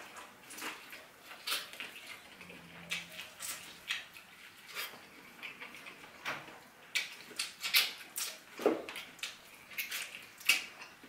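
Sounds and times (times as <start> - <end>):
person chewing and mouth sounds: 0.0 - 11.0.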